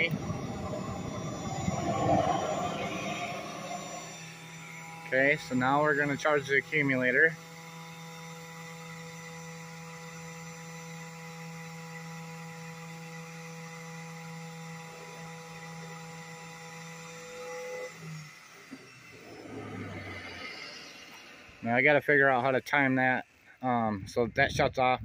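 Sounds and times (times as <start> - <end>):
blower electric hum: 0.0 - 25.0.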